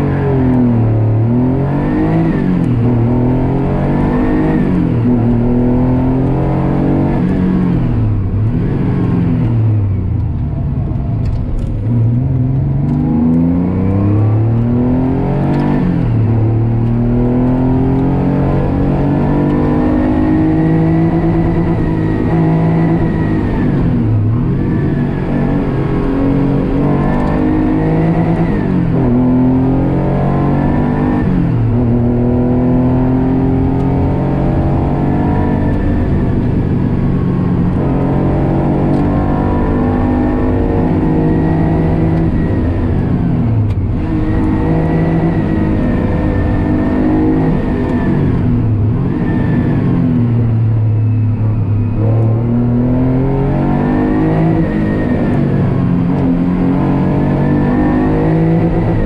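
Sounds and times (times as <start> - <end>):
race car engine revving: 0.0 - 10.0, 10.7 - 59.0.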